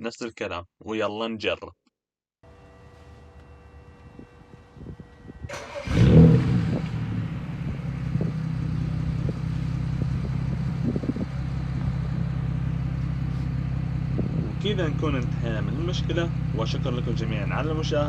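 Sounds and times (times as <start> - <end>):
car engine starting and idling: 2.4 - 18.0.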